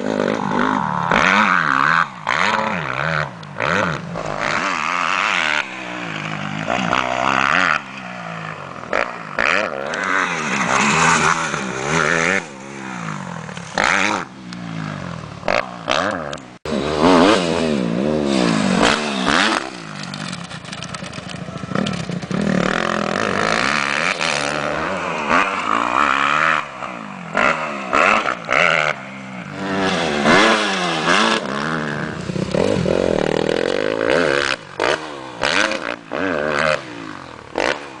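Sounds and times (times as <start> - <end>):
motocross bike engines revving: 0.0 - 38.0.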